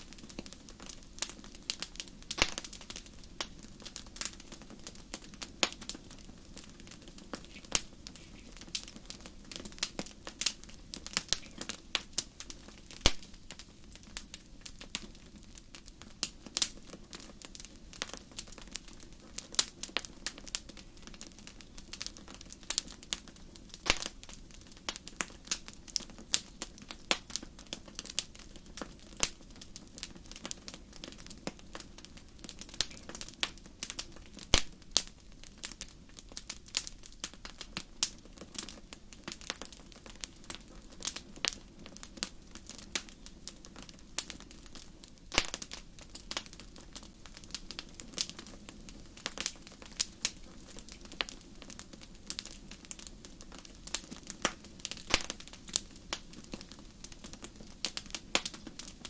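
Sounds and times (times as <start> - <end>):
faint low hiss: 0.0 - 59.0
wood fire crackling: 0.0 - 59.0.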